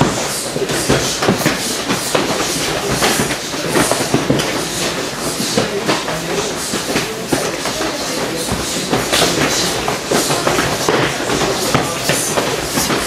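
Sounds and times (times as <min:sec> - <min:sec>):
feet moving on mats: 0:00.0 - 0:13.0.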